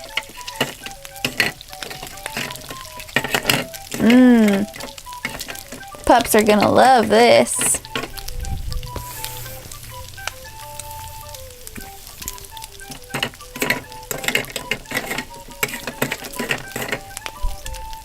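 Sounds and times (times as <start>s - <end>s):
toy crackling sizzle effect: 0.0s - 18.0s.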